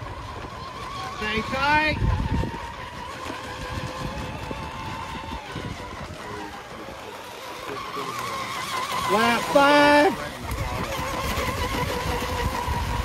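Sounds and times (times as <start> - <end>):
model boat motors whining: 0.0 - 13.0.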